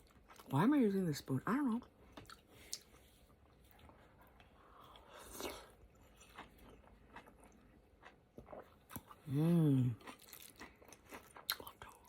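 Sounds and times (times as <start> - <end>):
chewing soft food: 0.0 - 0.6, 1.8 - 12.0.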